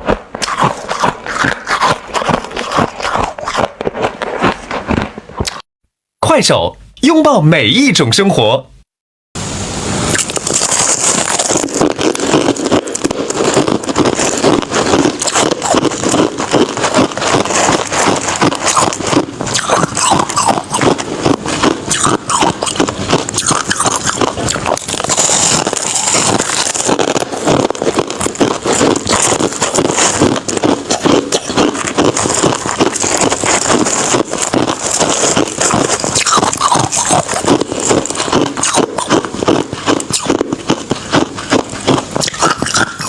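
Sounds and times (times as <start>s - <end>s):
ice being crunched: 0.0s - 5.6s, 10.1s - 43.0s.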